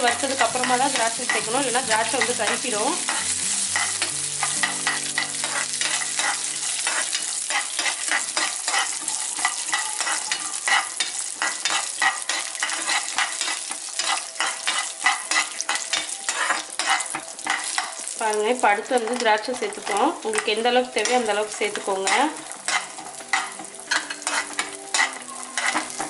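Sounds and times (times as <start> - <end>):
nuts sizzling in oil: 0.0 - 26.0
spoon scraping a pan: 0.0 - 26.0.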